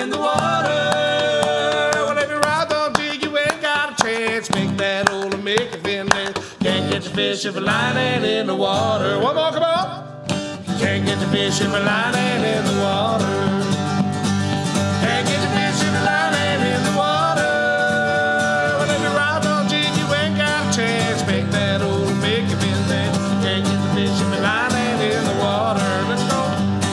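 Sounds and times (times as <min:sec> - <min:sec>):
men singing: 0:00.0 - 0:10.0, 0:10.7 - 0:26.9
strummed acoustic guitars: 0:00.0 - 0:26.9.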